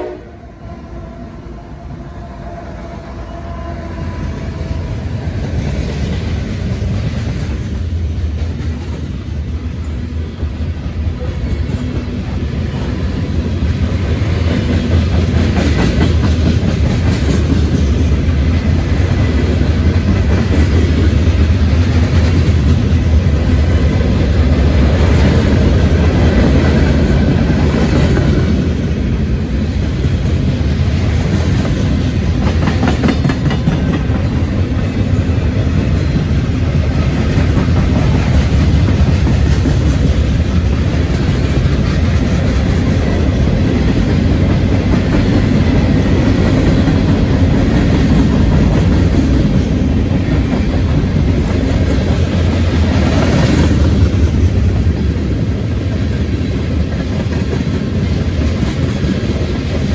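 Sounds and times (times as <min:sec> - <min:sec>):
freight train rumbling past: 0:00.0 - 0:59.9
train wheels clicking over rails: 0:04.3 - 0:59.9.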